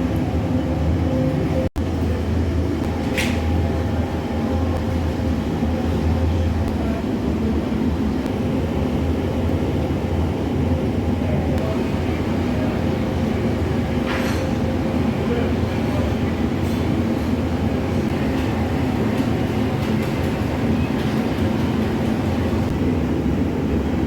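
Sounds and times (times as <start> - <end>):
bakery machine rumble and hum: 0.0 - 24.0.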